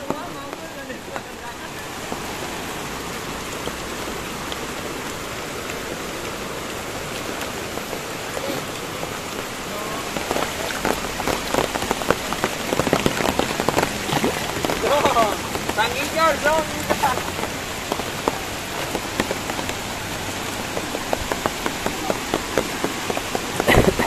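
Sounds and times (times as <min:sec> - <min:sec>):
heavy drops ticking near microphone: 0:00.0 - 0:24.0
steady rain falling: 0:00.0 - 0:24.0.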